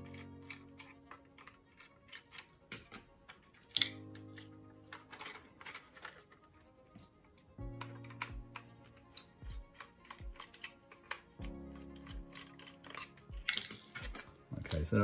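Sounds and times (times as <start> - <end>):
screwdriver clicks and taps: 0.0 - 6.2, 7.6 - 14.8
background music with slow beat: 0.0 - 15.0.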